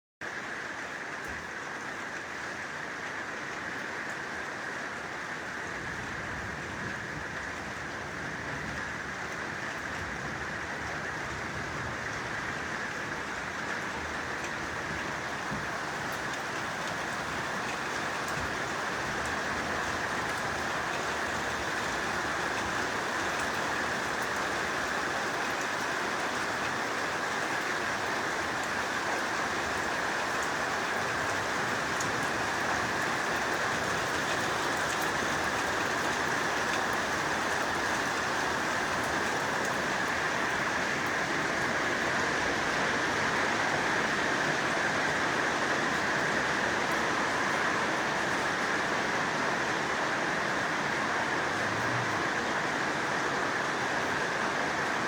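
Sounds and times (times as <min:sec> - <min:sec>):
heavy rain falling: 0:00.2 - 0:55.0.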